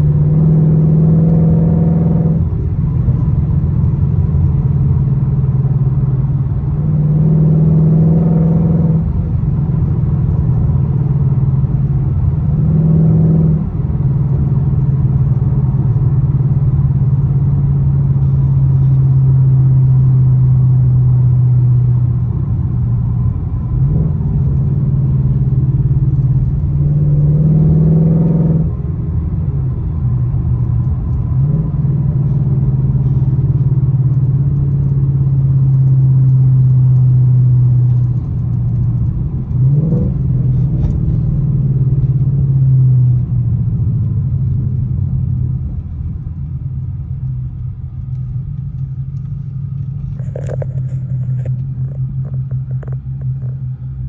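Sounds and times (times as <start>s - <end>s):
car engine and exhaust drone: 0.0s - 54.0s.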